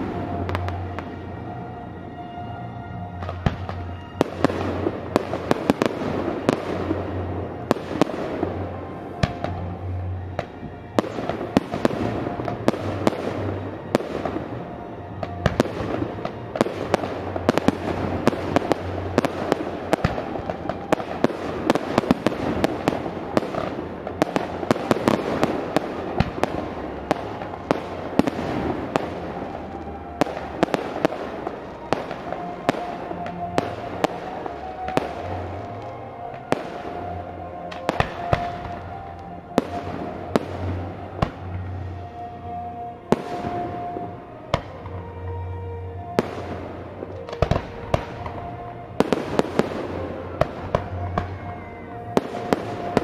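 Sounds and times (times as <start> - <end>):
fireworks bangs and crackles: 0.0 - 53.0
music playing: 0.0 - 53.0.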